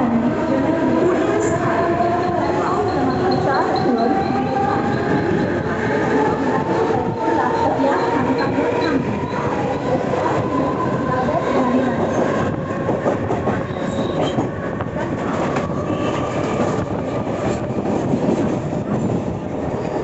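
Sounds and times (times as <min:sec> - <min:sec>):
rail joints clickety-clack: 0:00.0 - 0:20.0
train wheels rumbling on rails: 0:00.0 - 0:20.0.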